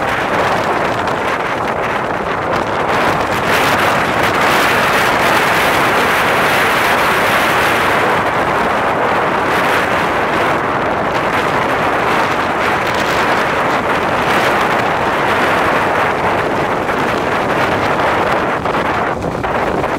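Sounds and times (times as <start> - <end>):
breaking surf: 0.0 - 19.9
strong wind buffeting microphone: 0.0 - 19.9.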